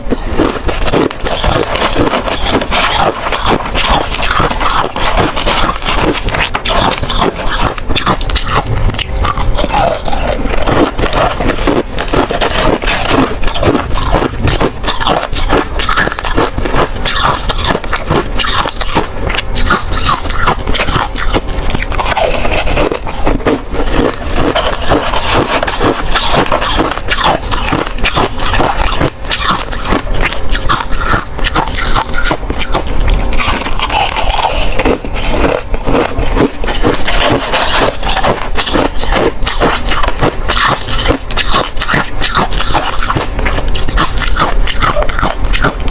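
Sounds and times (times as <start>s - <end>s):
ice crunching while chewed: 0.0s - 45.9s.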